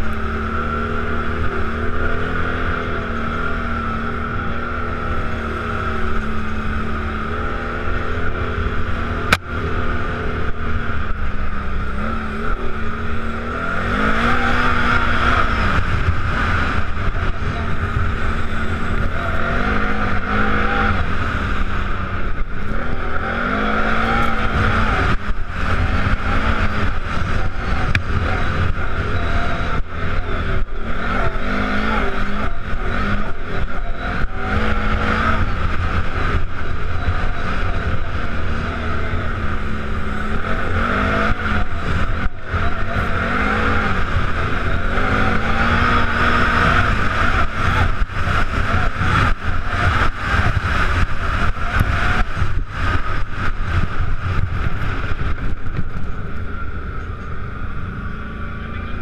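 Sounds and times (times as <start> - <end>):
atv engine revving: 0.0 - 59.0
wind noise on camera: 0.0 - 59.0.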